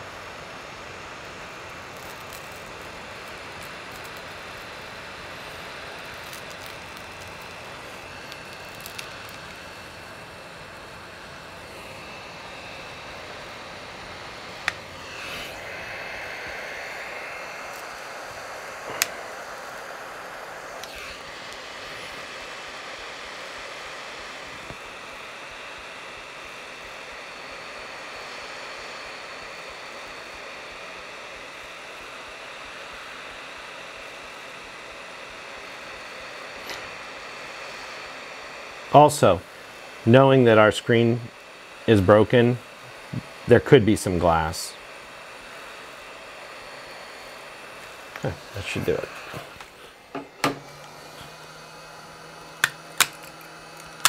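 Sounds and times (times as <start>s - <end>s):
hot air tool blowing: 0.0s - 54.0s.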